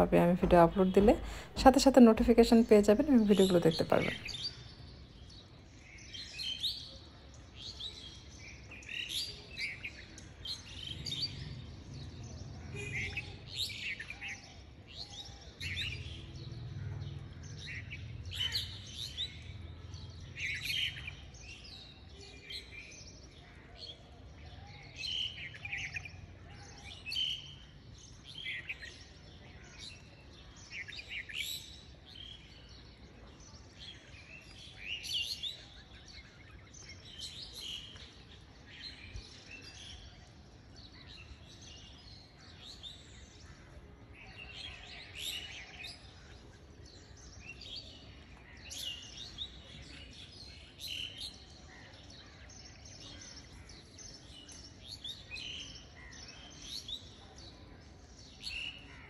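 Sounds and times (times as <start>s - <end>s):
faint background noise: 0.0s - 59.0s
small birds chirping: 0.0s - 59.0s.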